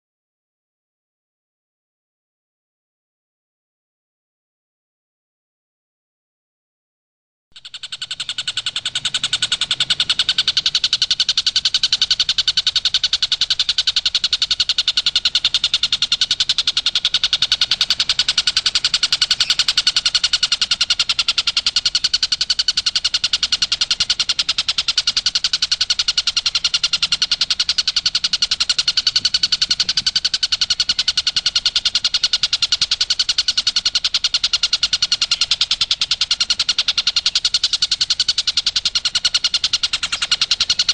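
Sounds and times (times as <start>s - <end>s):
kingfisher rattling call: 7.6s - 40.9s.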